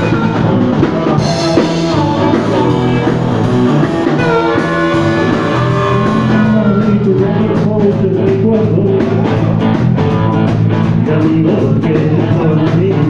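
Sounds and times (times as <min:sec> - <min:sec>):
blues band playing: 0:00.0 - 0:13.0.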